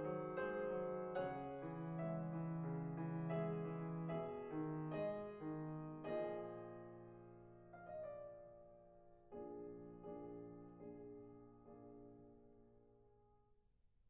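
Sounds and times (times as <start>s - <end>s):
piano notes and chords: 0.0s - 13.3s.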